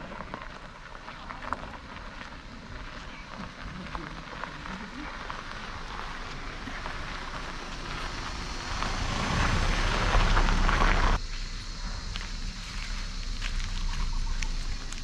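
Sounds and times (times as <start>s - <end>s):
tyres crackling on grit: 0.0s - 15.0s.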